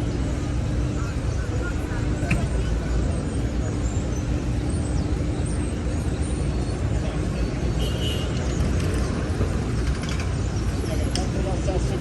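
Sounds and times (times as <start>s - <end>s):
faint engine hum: 0.0s - 12.0s
rumble of passing vehicles: 0.0s - 12.0s.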